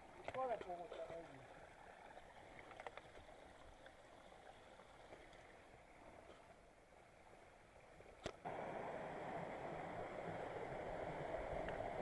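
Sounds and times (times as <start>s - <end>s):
mountain stream water rushing: 0.0s - 12.0s.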